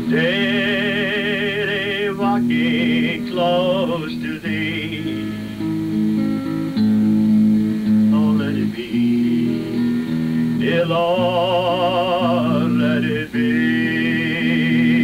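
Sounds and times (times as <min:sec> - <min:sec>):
person singing: 0:00.0 - 0:05.6, 0:07.9 - 0:15.0
acoustic guitar: 0:00.0 - 0:15.0.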